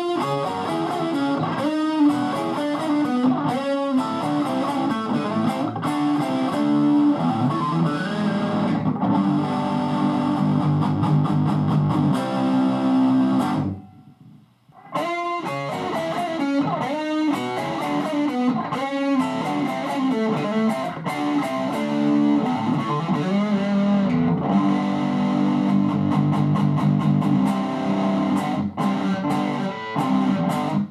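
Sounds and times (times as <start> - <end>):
overdriven electric guitar: 0.0 - 30.9.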